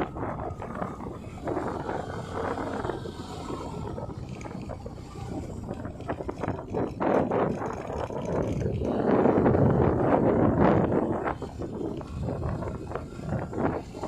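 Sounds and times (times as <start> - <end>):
motorcycle engine: 0.0 - 14.0
road noise: 0.0 - 14.0
wind rushing over microphone: 0.0 - 14.0.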